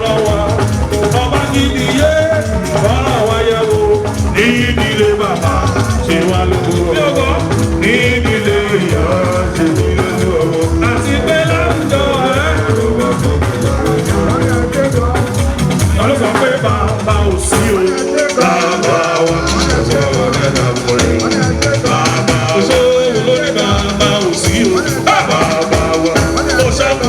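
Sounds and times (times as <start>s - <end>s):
live band with steady beat: 0.0s - 27.0s
people singing: 0.0s - 27.0s.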